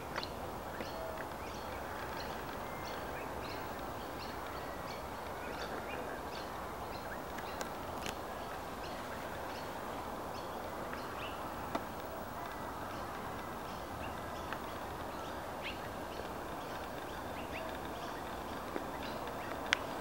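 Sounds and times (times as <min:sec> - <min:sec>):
small birds chirping: 0:00.0 - 0:20.0
steady outdoor hiss: 0:00.0 - 0:20.0.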